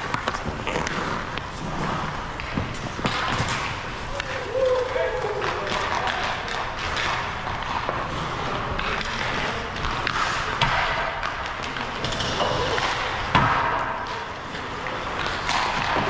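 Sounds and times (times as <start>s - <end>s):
skates scraping ice: 0.0s - 16.0s
sticks and pucks clacking: 0.0s - 16.0s.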